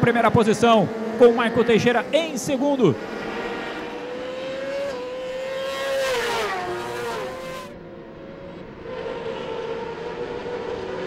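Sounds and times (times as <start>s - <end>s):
racing motorcycles at full throttle: 0.0s - 11.0s.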